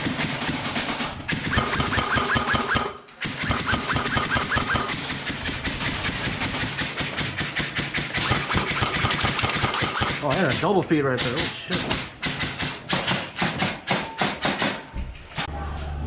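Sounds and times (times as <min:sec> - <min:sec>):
airsoft gun automatic fire: 0:00.0 - 0:14.9.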